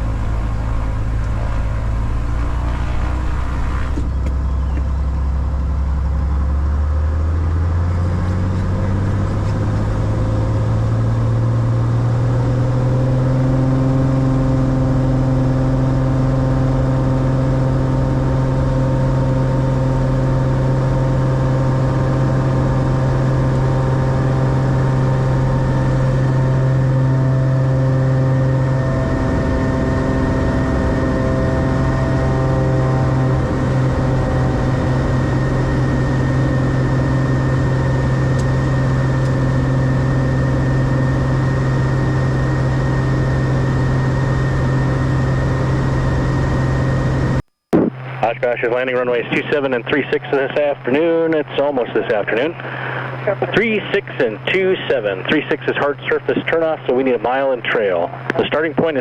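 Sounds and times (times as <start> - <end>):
propeller plane engine throttling up: 0.0 - 59.0.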